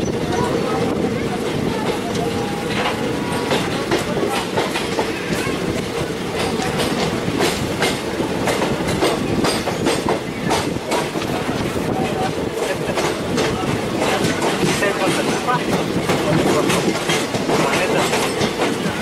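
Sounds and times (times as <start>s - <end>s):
train rumbling on track: 0.0s - 19.0s
wheels clacking over rail joints: 0.0s - 19.0s.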